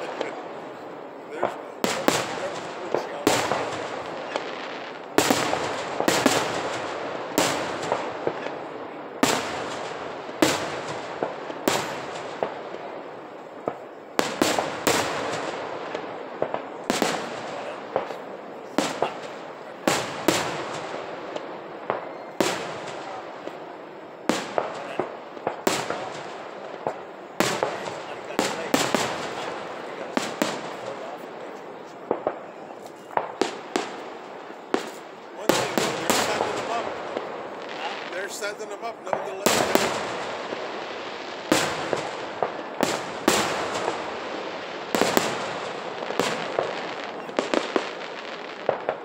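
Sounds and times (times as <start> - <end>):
fireworks bursting with echoes: 0.0 - 49.0.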